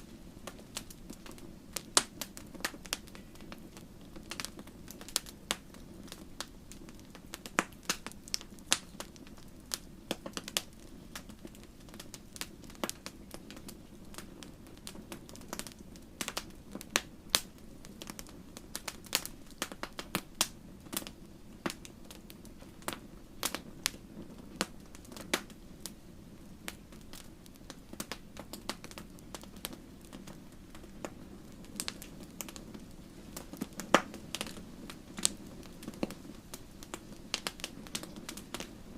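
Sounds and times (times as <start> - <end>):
low rush of flame: 0.0 - 38.9
wood fire crackling: 0.0 - 38.9.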